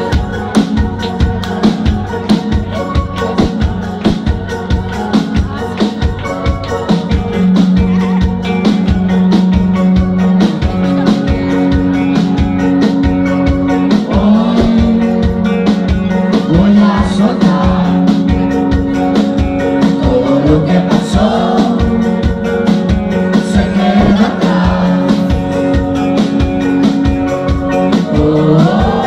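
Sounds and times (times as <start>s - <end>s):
drum beat: 0.0s - 29.0s
guitar and keyboard notes: 0.0s - 29.0s
person singing: 0.0s - 29.0s.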